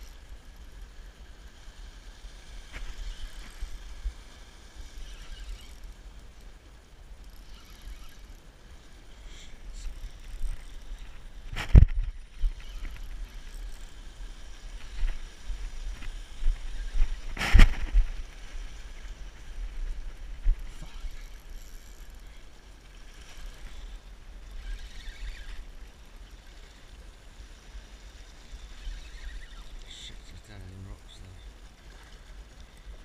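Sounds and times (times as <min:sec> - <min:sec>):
wind rumbling on microphone: 0:00.0 - 0:26.6.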